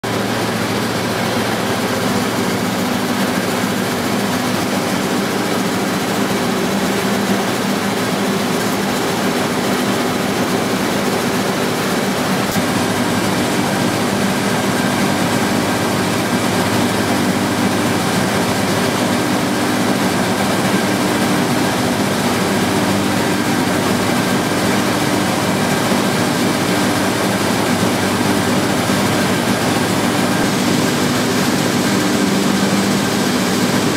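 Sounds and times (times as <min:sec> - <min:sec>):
steam engine running: 0:00.0 - 0:33.9.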